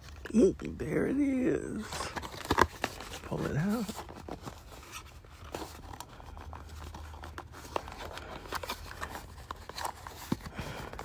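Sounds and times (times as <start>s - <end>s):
cardboard scraping and rustling: 1.2s - 11.0s.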